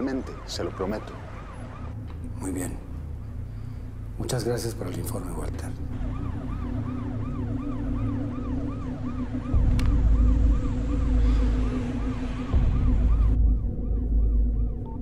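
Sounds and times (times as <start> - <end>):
siren rising and falling: 0.0 - 2.8, 5.8 - 15.0
deep rumbling music: 1.6 - 15.0
low drone: 2.0 - 15.0.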